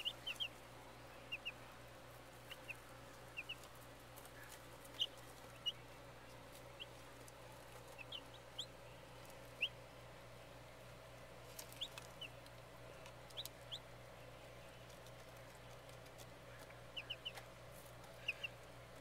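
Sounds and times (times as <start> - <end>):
baby chicks peeping: 0.0 - 19.0.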